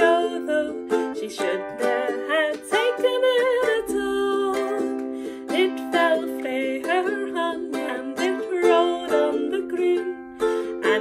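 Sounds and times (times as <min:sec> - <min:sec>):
ukulele strumming: 0:00.0 - 0:11.0
woman singing: 0:00.0 - 0:11.0.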